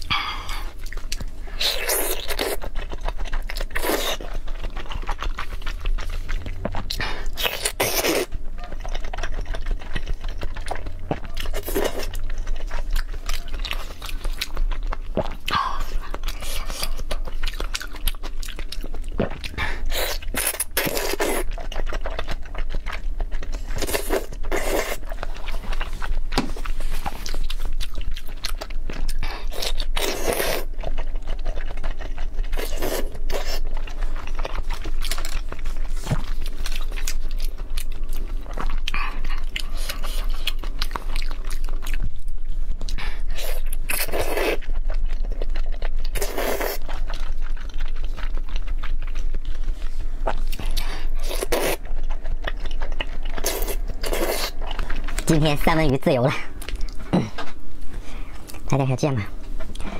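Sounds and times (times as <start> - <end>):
wet chewing and mouth smacking: 0.0 - 59.9.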